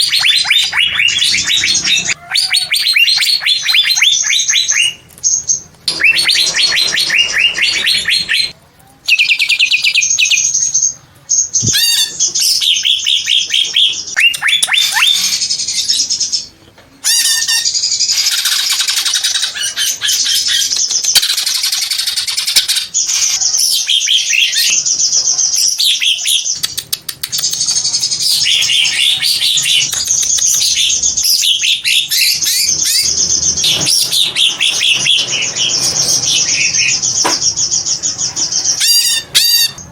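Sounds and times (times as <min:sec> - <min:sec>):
bird singing chirps and trills: 0:00.0 - 0:16.5, 0:17.6 - 0:39.9.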